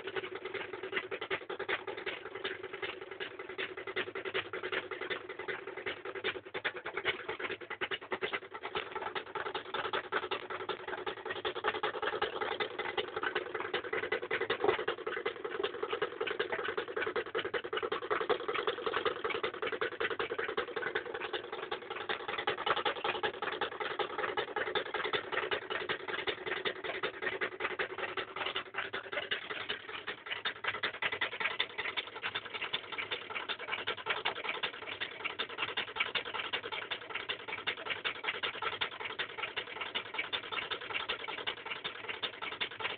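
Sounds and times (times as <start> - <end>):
steady hum: 0.0 - 35.7.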